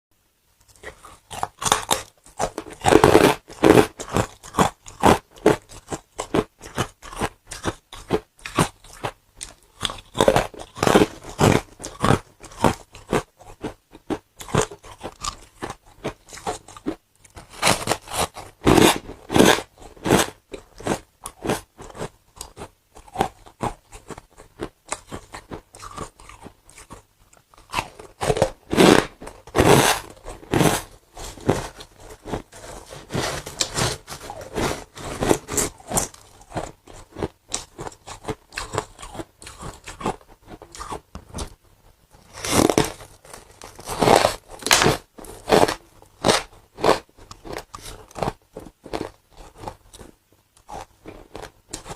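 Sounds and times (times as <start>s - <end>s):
ice crunching while chewed: 0.6s - 41.6s, 42.2s - 51.9s.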